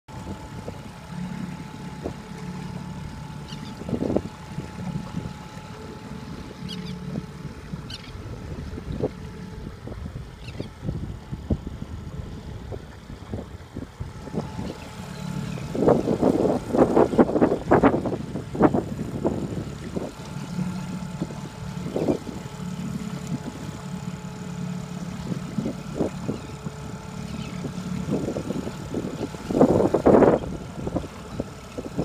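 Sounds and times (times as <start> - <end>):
boat motor humming: 0.0 - 32.0
water slapping hull: 0.1 - 32.0.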